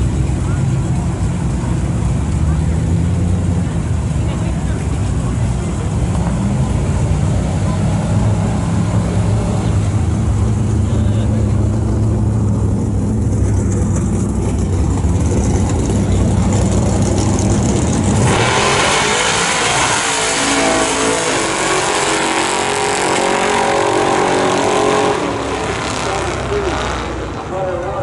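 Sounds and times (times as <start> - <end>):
car engines idling: 0.0 - 28.0
car engines revving at full throttle: 0.0 - 28.0.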